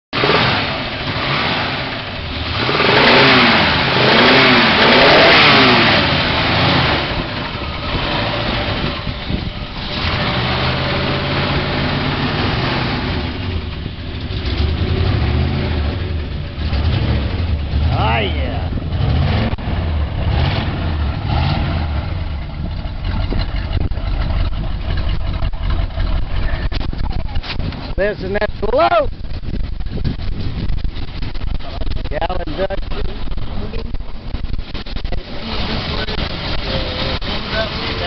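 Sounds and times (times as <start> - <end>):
car engine revving and idling: 0.1 - 38.0.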